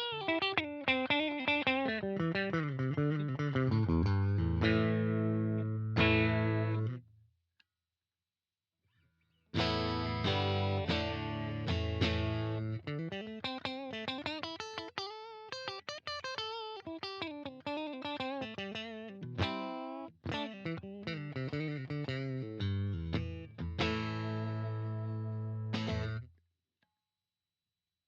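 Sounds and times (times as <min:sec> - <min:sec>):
electric guitar playing: 0:00.0 - 0:07.0, 0:09.6 - 0:26.2.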